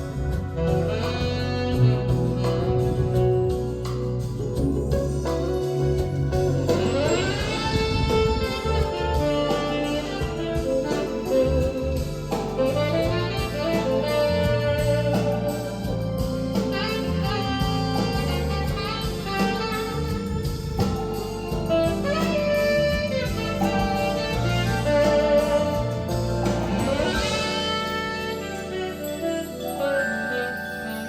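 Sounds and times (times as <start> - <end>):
instrumental music over speakers: 0.0 - 31.0.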